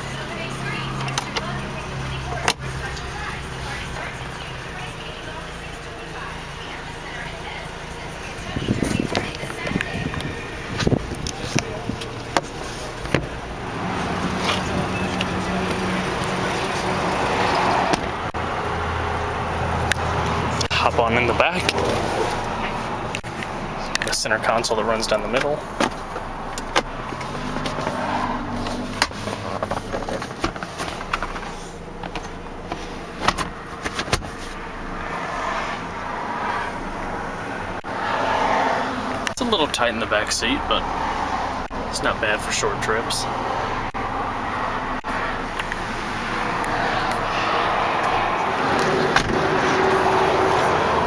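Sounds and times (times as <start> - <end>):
vehicle engine humming: 0.0 - 51.0.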